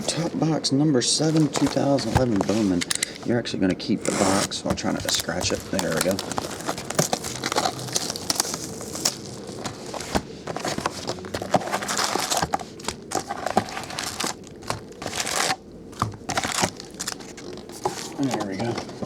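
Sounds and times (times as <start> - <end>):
plastic wrap crinkling and tearing: 1.2 - 19.0.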